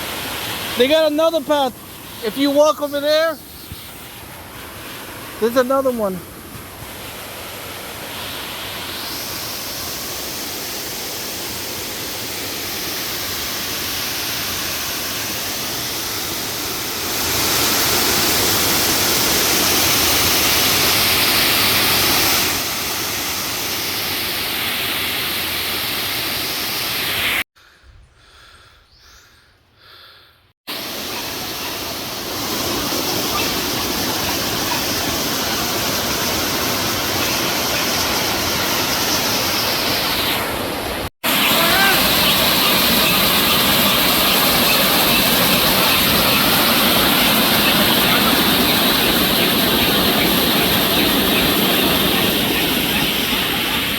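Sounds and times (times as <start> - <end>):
waterfall rushing: 0.0 - 3.4, 4.5 - 27.4, 30.7 - 53.9.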